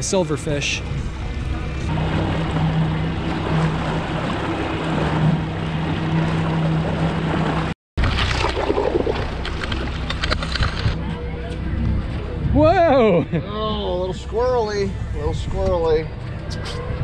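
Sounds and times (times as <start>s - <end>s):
boat motor humming: 0.0s - 17.0s
water noise: 0.0s - 17.0s
wind: 0.0s - 17.0s.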